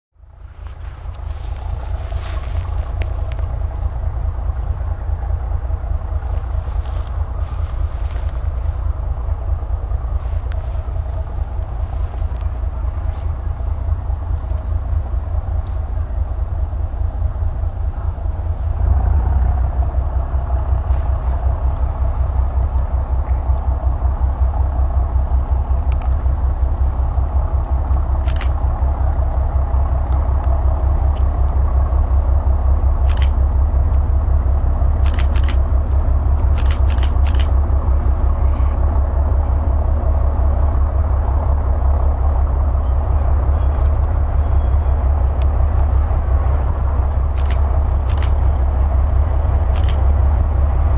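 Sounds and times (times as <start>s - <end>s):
diesel locomotive engine throbbing: 0.1s - 50.9s.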